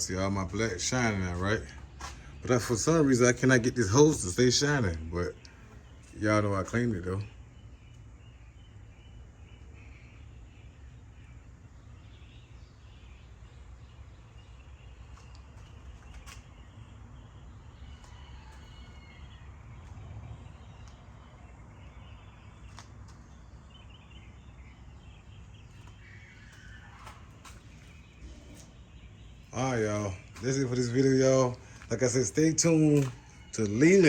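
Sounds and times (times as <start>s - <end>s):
distant bird chirps: 0.0s - 34.0s.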